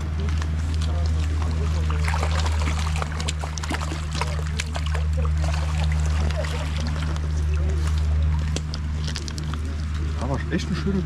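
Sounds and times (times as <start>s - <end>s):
fish splashing and thrashing: 0.0s - 11.0s
steady low hum: 0.0s - 11.0s
water sloshing and dripping: 0.0s - 11.0s.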